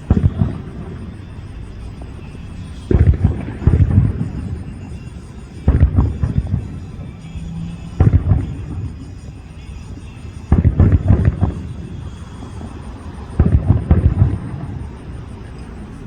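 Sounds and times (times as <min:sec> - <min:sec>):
fireworks booming: 0:00.0 - 0:16.0
fireworks crackle: 0:00.0 - 0:16.0.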